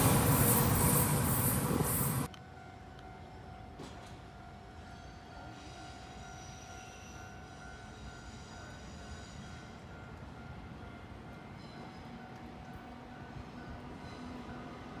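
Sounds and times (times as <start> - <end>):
electric locomotive whine: 0.0 - 15.0
low train rumble: 0.0 - 15.0.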